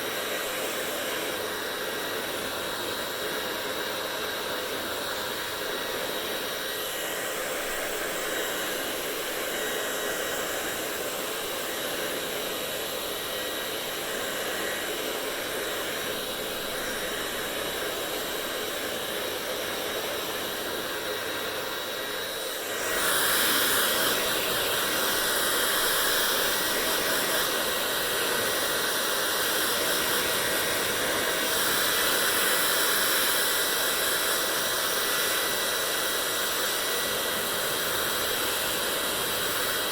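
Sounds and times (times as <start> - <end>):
hair dryer blowing air: 0.0 - 39.9.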